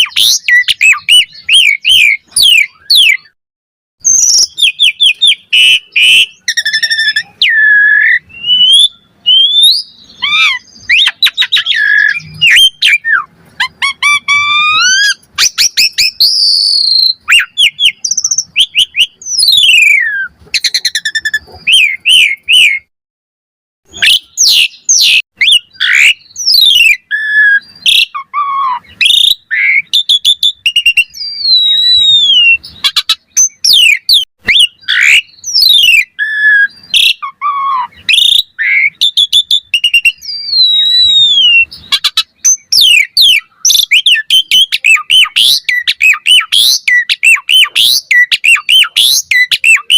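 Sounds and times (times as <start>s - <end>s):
starling singing: 0.0s - 3.4s, 4.0s - 22.9s, 23.9s - 49.9s.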